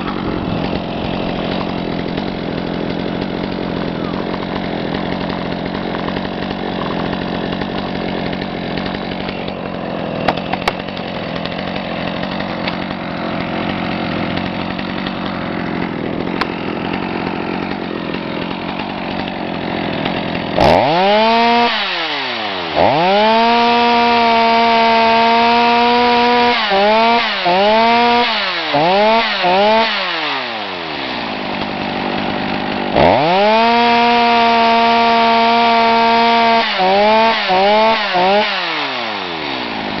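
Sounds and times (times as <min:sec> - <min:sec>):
chainsaw revving: 0:00.0 - 0:40.0.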